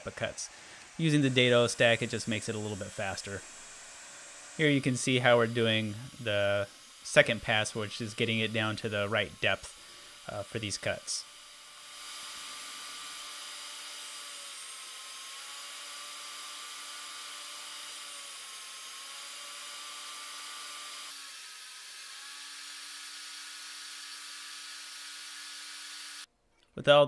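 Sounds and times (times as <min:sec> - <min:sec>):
table saw cutting wood: 0:00.0 - 0:26.3.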